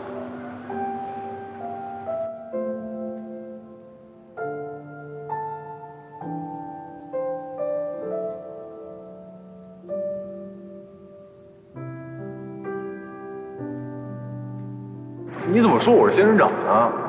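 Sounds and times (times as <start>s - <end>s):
slow soft piano chords: 0.0s - 17.0s.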